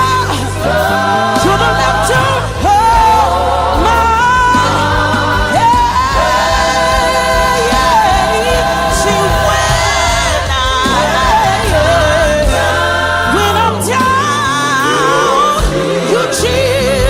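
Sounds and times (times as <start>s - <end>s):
bass line: 0.0s - 17.0s
gospel group singing: 0.0s - 17.0s.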